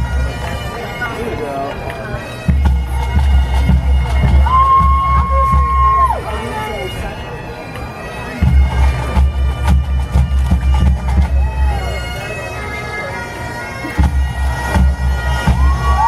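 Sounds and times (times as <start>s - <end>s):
bagpipes with drones: 0.0s - 16.0s.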